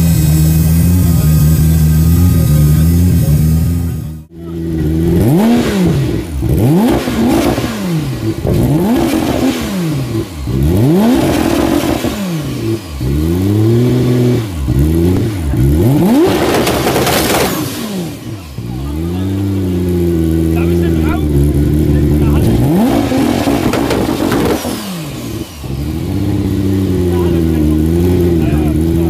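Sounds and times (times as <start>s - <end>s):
car engine revving in blips: 0.0s - 29.0s.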